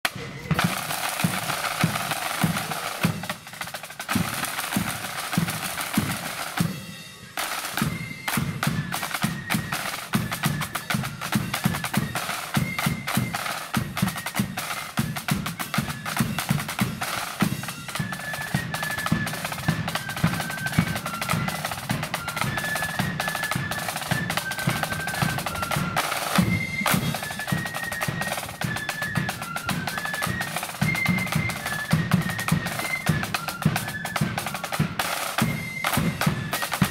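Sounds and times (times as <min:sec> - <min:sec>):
flutes playing marching tune: 0:00.0 - 0:36.9
snare drums playing rolls: 0:00.0 - 0:36.9.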